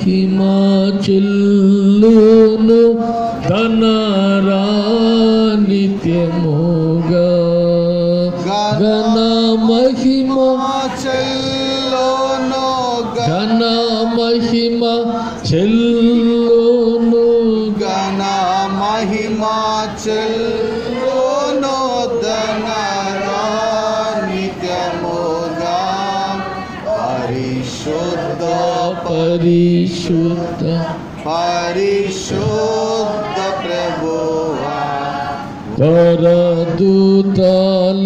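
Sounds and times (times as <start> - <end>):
man singing into a microphone: 0.0 - 34.9, 35.5 - 38.0.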